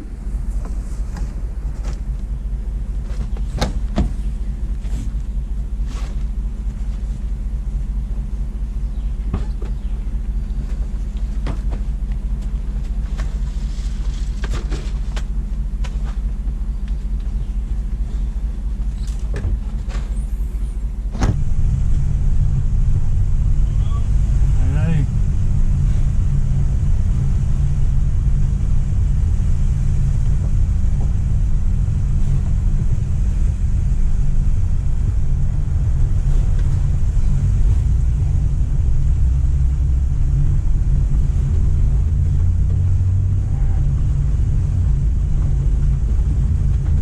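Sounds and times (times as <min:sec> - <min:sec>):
engine and road rumble: 0:00.0 - 0:47.0.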